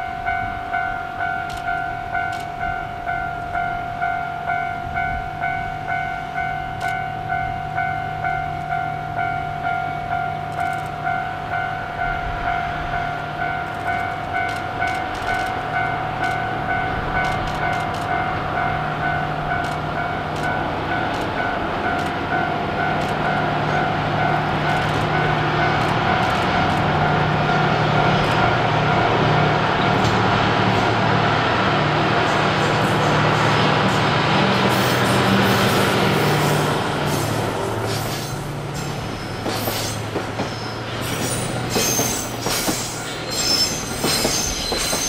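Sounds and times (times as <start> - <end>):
train running noise: 0.0 - 45.0.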